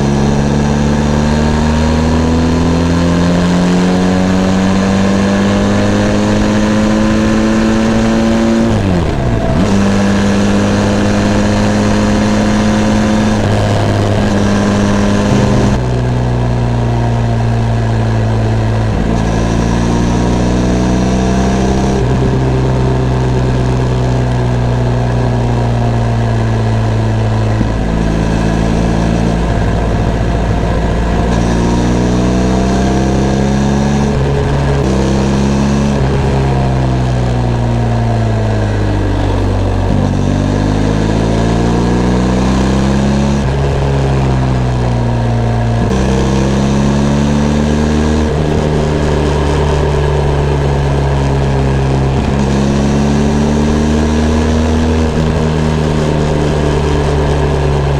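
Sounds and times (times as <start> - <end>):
motorcycle engine accelerating: 0.0 - 57.9
wind and road noise: 0.0 - 57.9.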